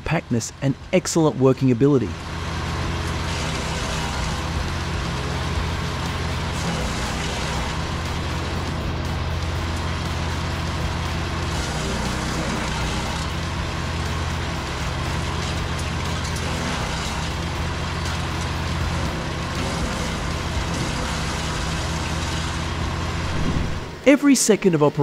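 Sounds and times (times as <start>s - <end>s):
wood chipper running: 0.0s - 24.2s.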